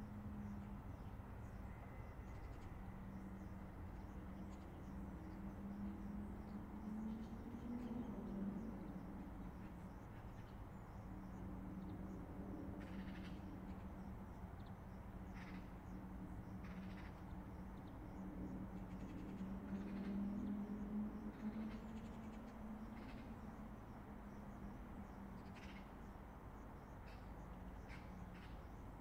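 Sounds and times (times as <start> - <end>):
distant highway traffic: 0.0 - 29.0.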